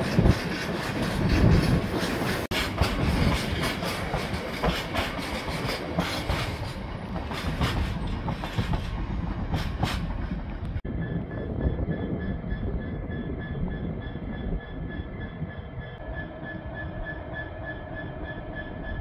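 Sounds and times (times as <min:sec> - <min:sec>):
train rumble: 0:00.0 - 0:19.0
train wheels clickety-clack: 0:00.0 - 0:19.0.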